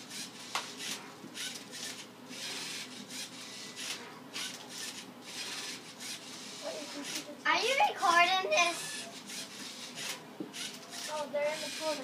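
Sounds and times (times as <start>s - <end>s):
robot motors whirring: 0.0s - 12.0s.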